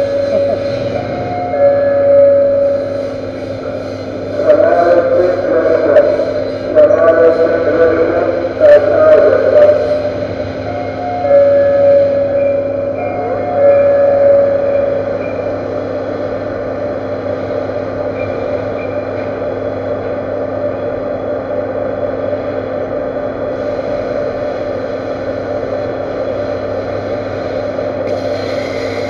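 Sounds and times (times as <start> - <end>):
loud tone: 0.0 - 29.0
workshop machinery humming: 0.0 - 29.0.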